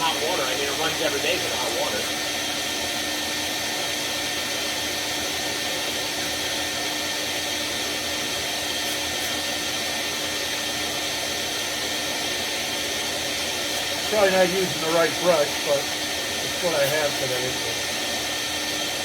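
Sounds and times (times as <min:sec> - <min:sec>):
shop vacuum running: 0:00.0 - 0:19.0.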